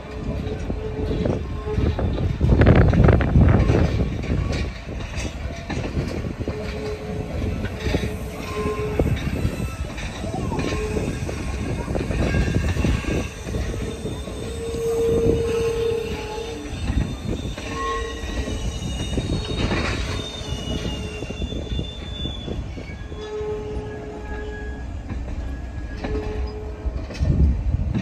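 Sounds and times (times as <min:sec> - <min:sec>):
steel wheels squealing: 0:00.0 - 0:27.4
train cars rumbling: 0:00.0 - 0:28.0
train wheels clicking: 0:00.0 - 0:28.0.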